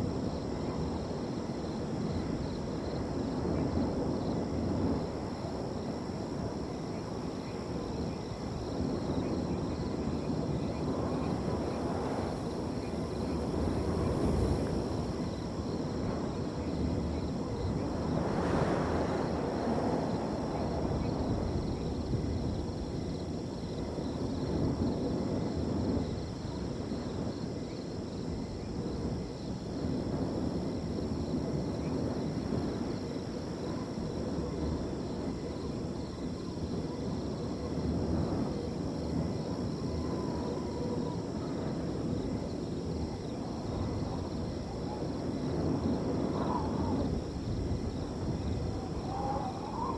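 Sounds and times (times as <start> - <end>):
crickets trilling: 0.0 - 49.9
wind gusting: 0.0 - 49.9.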